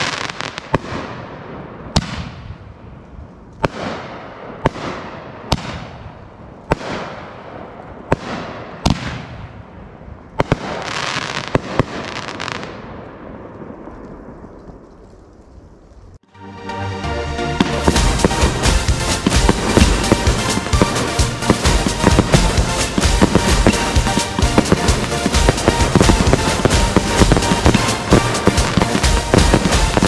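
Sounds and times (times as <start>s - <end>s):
firework reports: 0.0s - 15.0s, 17.6s - 30.0s
firework crackling: 0.0s - 16.3s, 17.6s - 30.0s.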